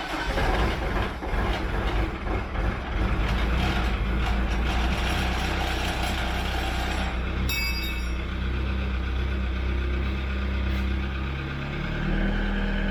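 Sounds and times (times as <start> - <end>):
vehicle engine running: 0.2 - 12.9.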